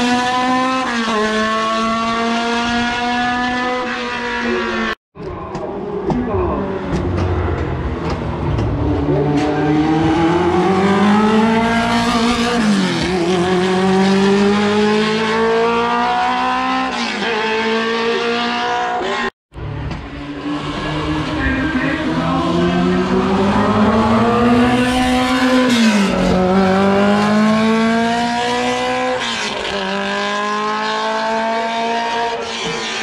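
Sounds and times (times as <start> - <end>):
racing car engine accelerating: 0.0 - 33.0.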